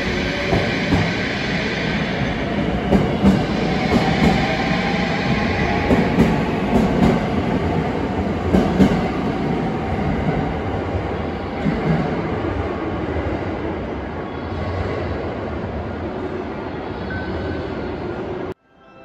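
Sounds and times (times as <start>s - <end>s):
train rolling rumble: 0.0s - 16.1s.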